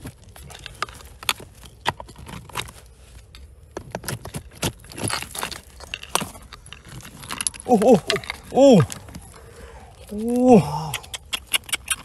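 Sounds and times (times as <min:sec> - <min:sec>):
rocks and gravel clicking and scraping: 0:00.0 - 0:12.0.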